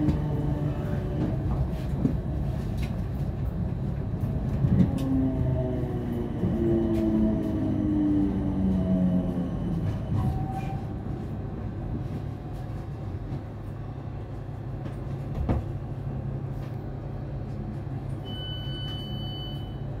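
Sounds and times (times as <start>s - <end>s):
electric train humming: 0.0s - 18.4s.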